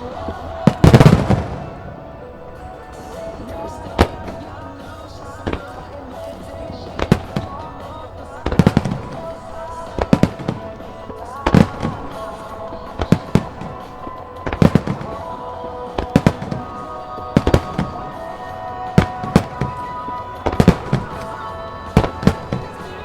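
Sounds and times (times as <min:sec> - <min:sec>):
fireworks bursting in sharp bangs: 0:00.0 - 0:23.0
rock song with vocals over loudspeakers: 0:00.0 - 0:23.0.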